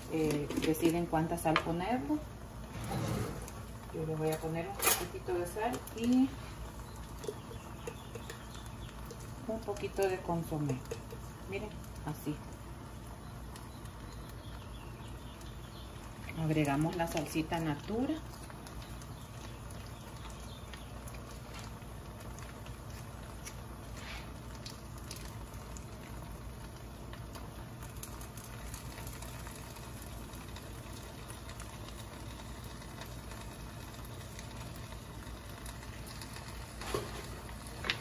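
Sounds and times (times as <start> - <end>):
gas burner hum and hiss: 0.0 - 38.0.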